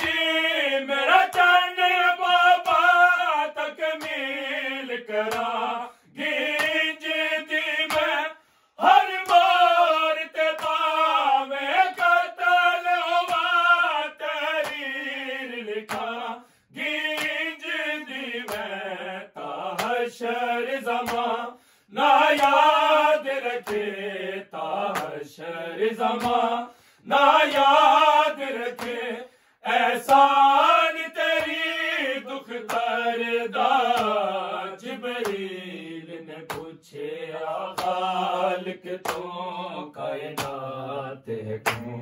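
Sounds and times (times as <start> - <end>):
men chanting a lament: 0.0 - 42.0.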